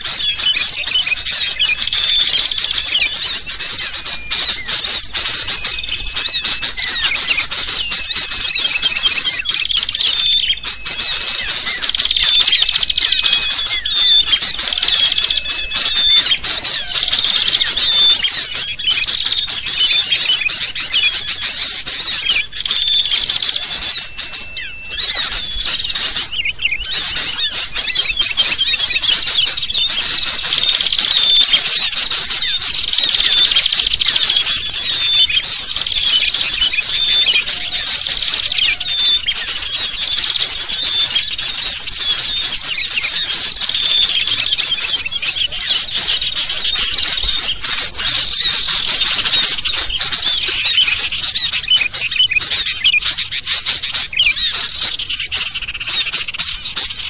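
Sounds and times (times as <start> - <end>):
agitated bulbul calls: 0.0 - 57.0
small birds chirping: 0.0 - 57.0.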